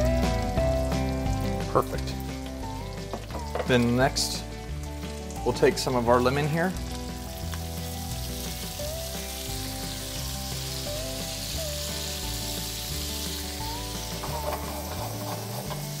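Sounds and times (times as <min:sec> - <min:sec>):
background music with low bass: 0:00.0 - 0:16.0
fish sizzling in a frying pan: 0:00.0 - 0:16.0.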